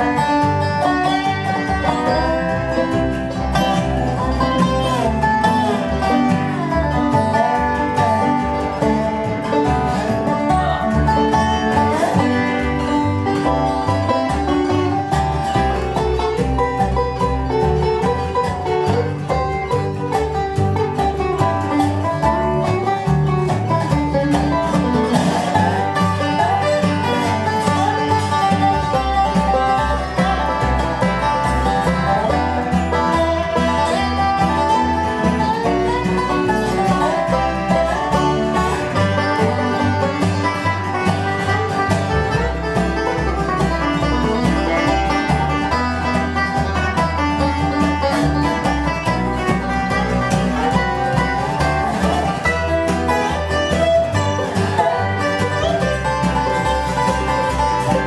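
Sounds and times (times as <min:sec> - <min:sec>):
acoustic guitar picking: 0:00.0 - 0:58.0
banjo: 0:00.0 - 0:58.0
dobro: 0:00.0 - 0:58.0
upright bass: 0:00.0 - 0:58.0.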